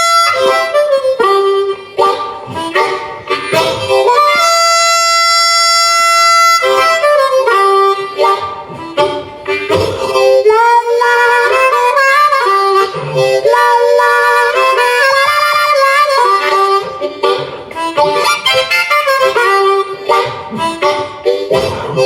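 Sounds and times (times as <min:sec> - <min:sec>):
blues harmonica solo: 0:00.0 - 0:22.0.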